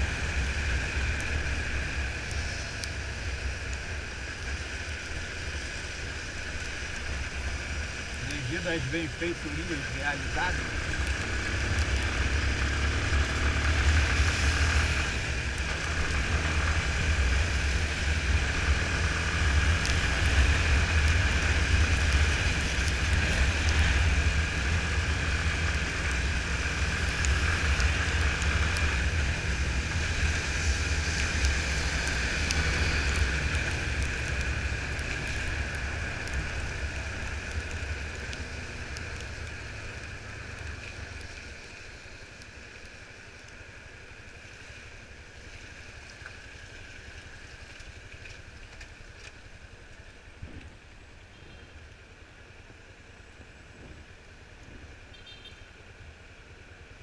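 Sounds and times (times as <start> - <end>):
wet tyre noise: 0.0 - 57.0.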